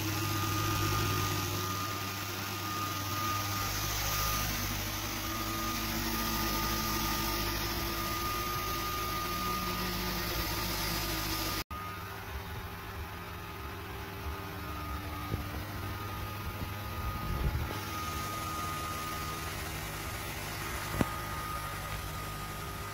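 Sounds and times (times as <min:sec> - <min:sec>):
laser engraver fan hum: 0:00.0 - 0:22.9
thin steady whine: 0:00.0 - 0:22.9.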